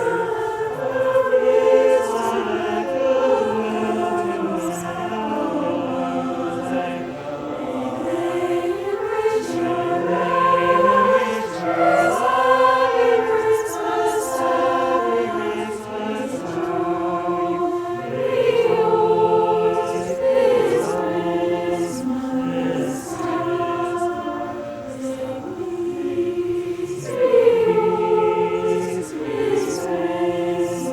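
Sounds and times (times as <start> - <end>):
choir singing chords: 0.0 - 30.9.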